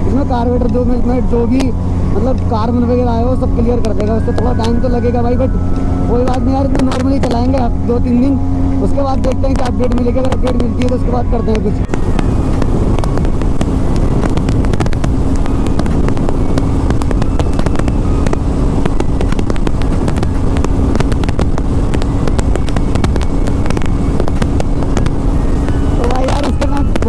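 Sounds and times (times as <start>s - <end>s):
motorcycle engine cruising: 0.0s - 27.0s
wind buffeting microphone: 0.0s - 27.0s.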